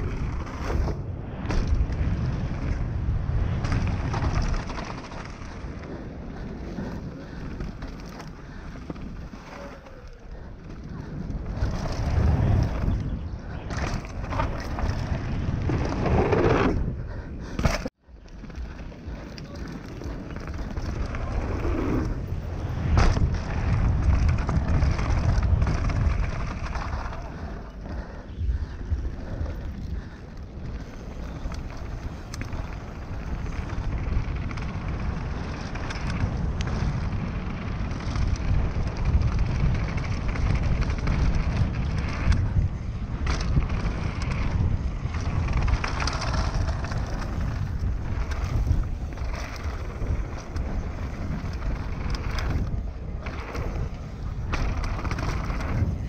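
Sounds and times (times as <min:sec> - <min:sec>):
bike tyres rumbling over ground: 0:00.0 - 0:56.0
wind rushing over microphone: 0:00.0 - 0:56.0.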